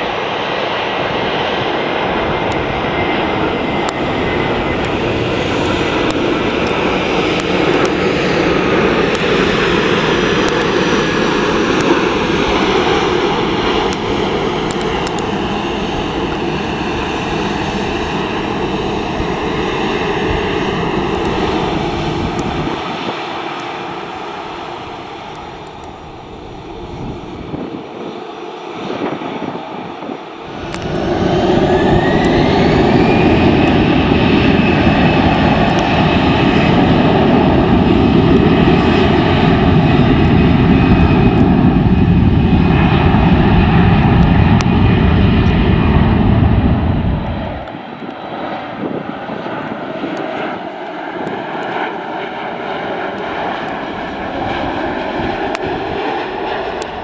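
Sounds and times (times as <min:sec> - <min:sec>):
jet engines spooling up: 0:00.0 - 0:57.0
loud jet engine noise: 0:00.0 - 0:57.0.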